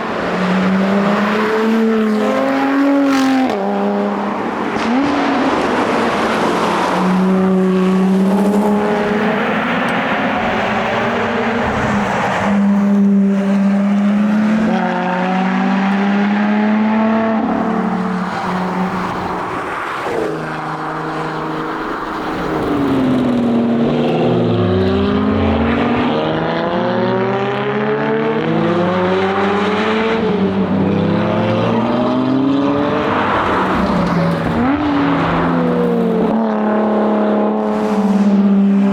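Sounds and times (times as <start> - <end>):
car engine revving: 0.0 - 38.9
tyre and road noise: 0.0 - 38.9.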